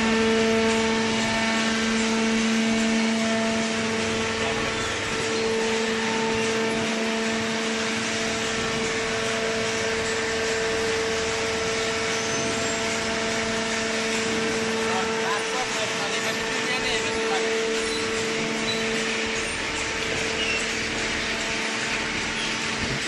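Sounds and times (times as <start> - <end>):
baling press machine hum: 0.0 - 23.0.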